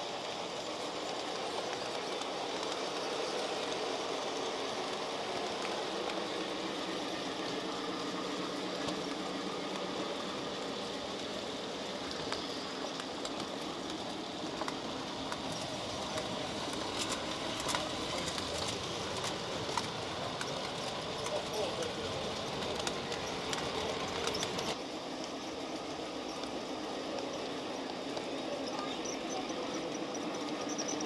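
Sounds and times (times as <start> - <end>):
model train motor whirring: 0.0 - 31.0.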